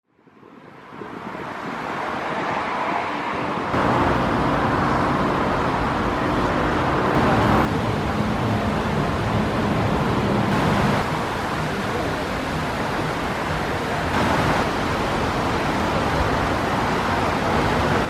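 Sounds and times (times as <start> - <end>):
road traffic rushing: 0.5 - 18.0.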